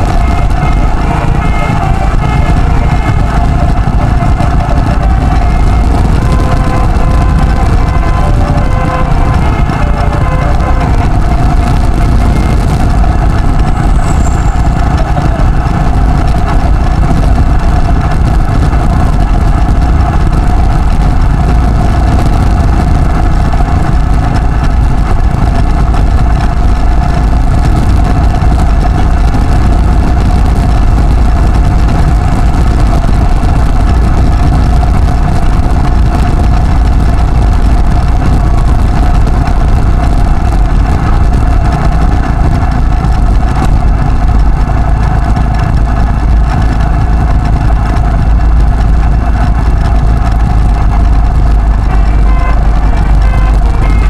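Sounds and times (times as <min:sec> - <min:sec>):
mid-pitched hum: 0:00.0 - 0:54.0
vehicle engine drone: 0:00.0 - 0:54.0
wind rumble: 0:00.0 - 0:54.0.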